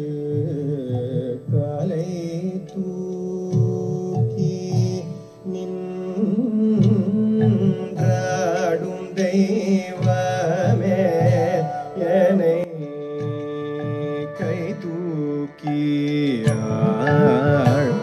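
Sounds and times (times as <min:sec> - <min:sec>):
man singing ornamented phrases: 0:00.0 - 0:18.0.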